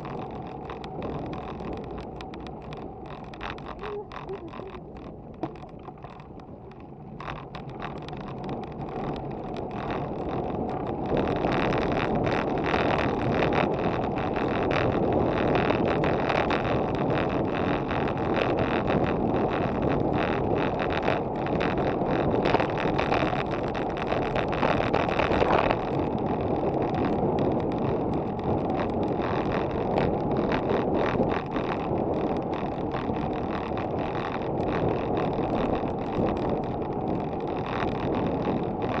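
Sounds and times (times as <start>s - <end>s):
bicycle tyres rolling on path: 0.0s - 39.0s
wind rushing over microphone: 0.0s - 39.0s.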